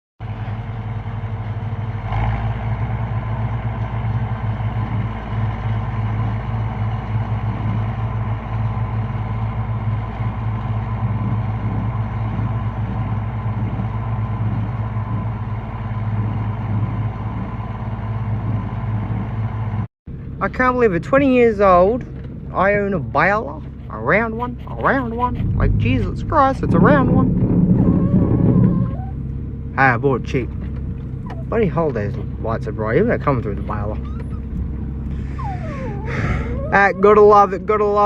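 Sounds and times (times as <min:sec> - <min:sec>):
tractor diesel engine running: 0:00.2 - 0:38.0.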